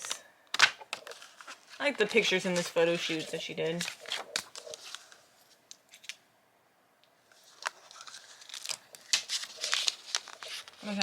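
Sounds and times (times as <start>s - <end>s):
booklet pages rustling: 0.0s - 6.2s, 7.3s - 11.0s.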